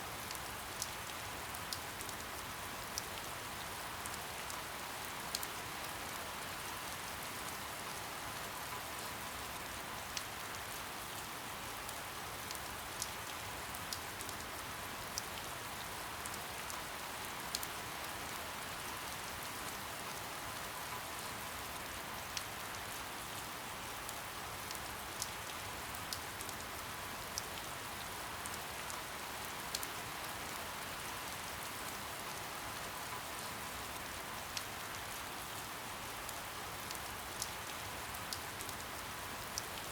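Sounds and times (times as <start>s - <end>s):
soft rain hiss: 0.0s - 39.9s.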